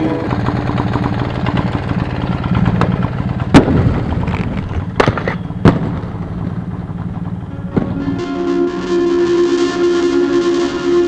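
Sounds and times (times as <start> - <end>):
moped engine idling: 0.0 - 11.0.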